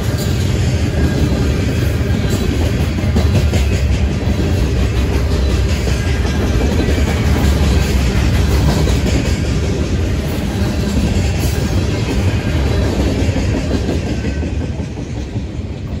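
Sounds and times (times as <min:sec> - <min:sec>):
train wheels rumbling and clacking: 0:00.0 - 0:16.0.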